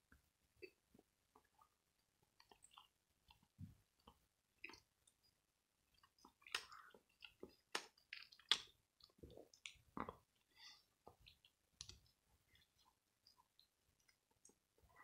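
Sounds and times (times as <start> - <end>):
person chewing: 0.6 - 5.2, 5.9 - 15.0.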